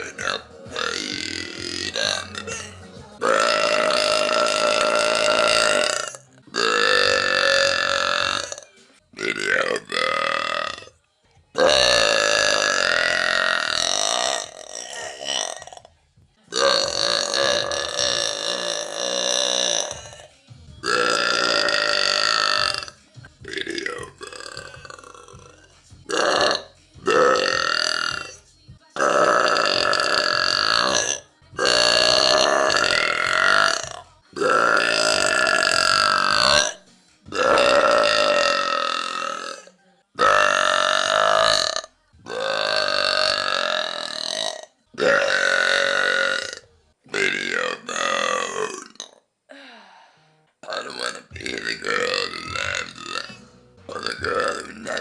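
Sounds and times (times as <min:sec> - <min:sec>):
woman belching: 0:00.0 - 0:08.6, 0:09.2 - 0:11.0, 0:11.6 - 0:15.9, 0:16.5 - 0:28.4, 0:29.0 - 0:49.2, 0:50.6 - 0:55.0.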